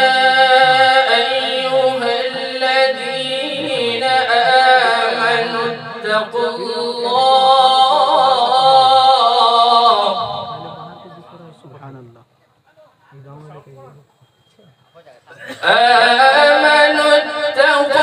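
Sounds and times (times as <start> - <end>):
man reciting melodically: 0.0 - 12.0, 15.4 - 18.0.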